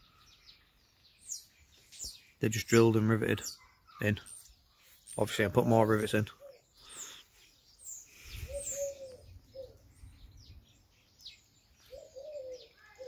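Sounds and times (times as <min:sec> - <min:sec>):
birds chirping: 0:00.0 - 0:13.0
lower arched bird notes: 0:00.0 - 0:13.0.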